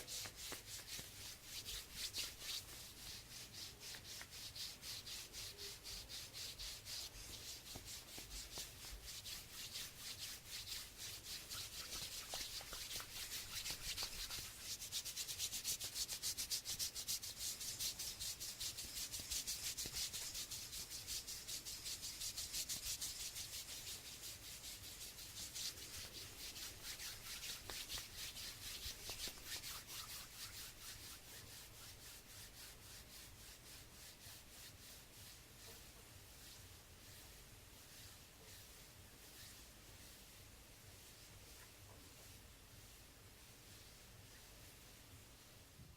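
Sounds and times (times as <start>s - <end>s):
hands rubbing: 0.0s - 44.9s.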